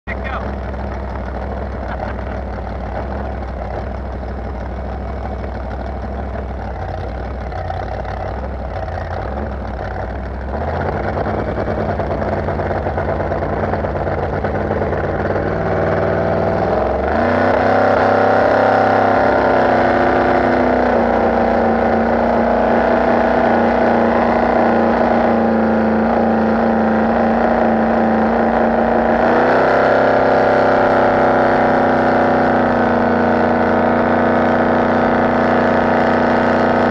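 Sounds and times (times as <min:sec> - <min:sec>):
boat engine revving: 0:00.1 - 0:36.9.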